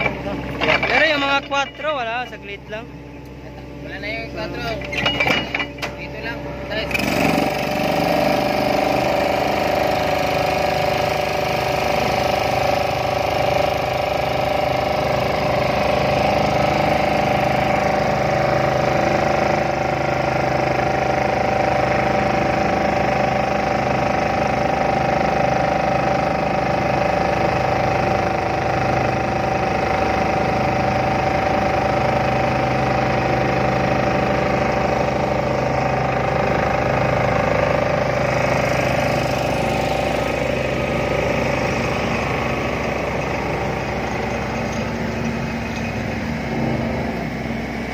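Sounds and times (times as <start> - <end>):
steady mechanical whine: 0.0 - 47.9
vibratory pile hammer drone: 0.0 - 47.9.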